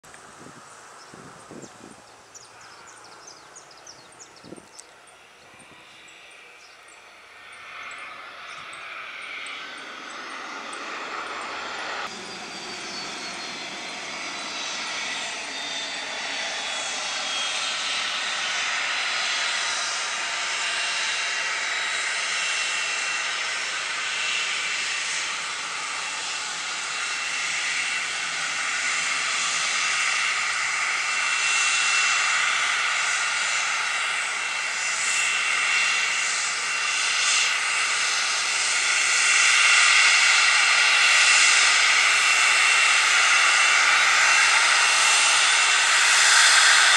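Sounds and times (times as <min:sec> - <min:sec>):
jet engines whining: 0:00.1 - 0:46.9.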